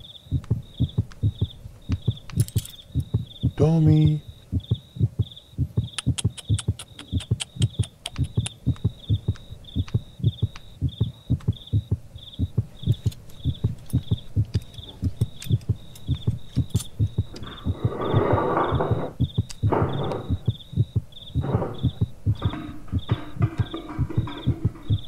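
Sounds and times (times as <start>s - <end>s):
low double thumps: 0.3s - 25.0s.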